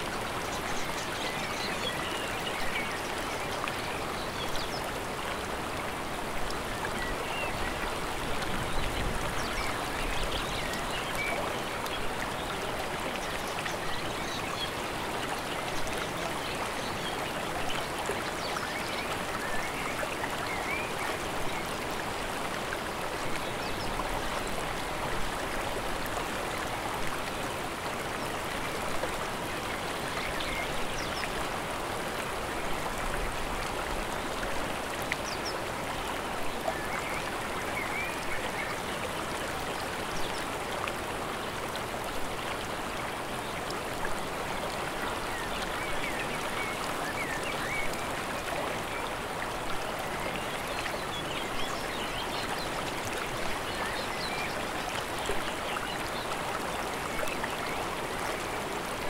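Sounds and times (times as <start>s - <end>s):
mountain stream water rushing: 0.0s - 59.0s.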